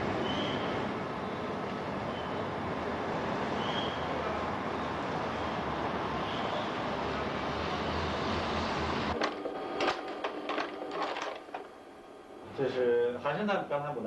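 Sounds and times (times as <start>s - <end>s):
city traffic: 0.0s - 12.5s.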